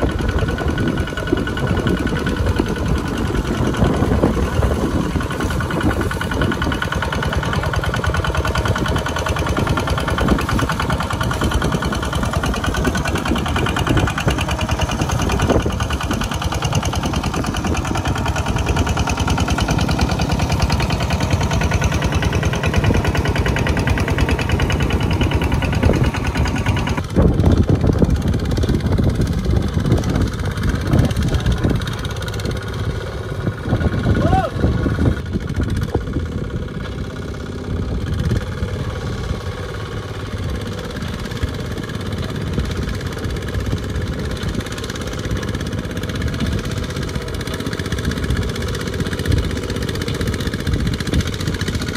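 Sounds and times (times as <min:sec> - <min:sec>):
tractor engine chugging: 0:00.0 - 0:51.9
walking tractor diesel engine: 0:00.0 - 0:51.9.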